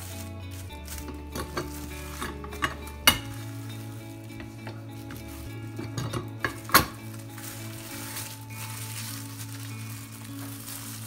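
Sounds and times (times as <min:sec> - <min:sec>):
plastic sheet crinkling: 0:00.0 - 0:11.0.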